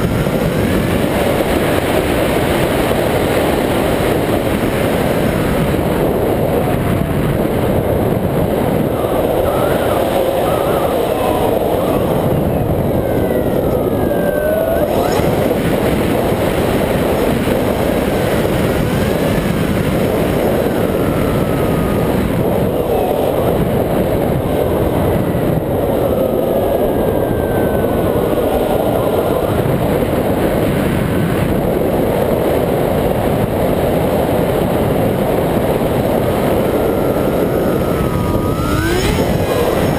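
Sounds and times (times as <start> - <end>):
electric motor and propeller whine: 0.0 - 39.9
wind rush: 0.0 - 39.9.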